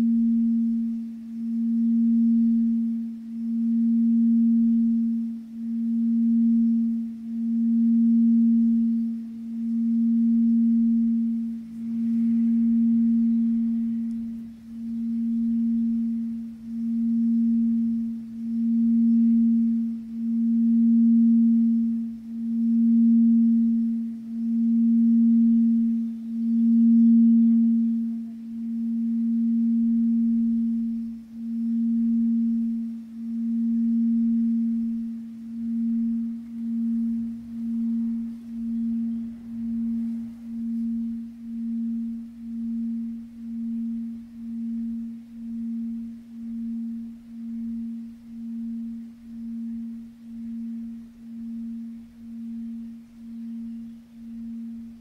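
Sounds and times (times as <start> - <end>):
singing bowl pulsing tone: 0.0 - 55.0.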